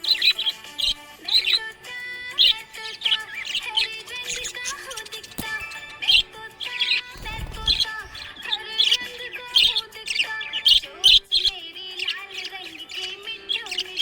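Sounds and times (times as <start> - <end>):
background music: 0.0 - 14.0
budgerigars chirping and warbling: 0.0 - 14.0.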